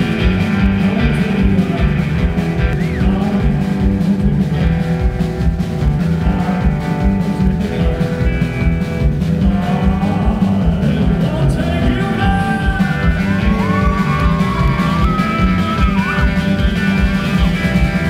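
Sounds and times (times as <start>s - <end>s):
live country-rock band: 0.0s - 18.0s.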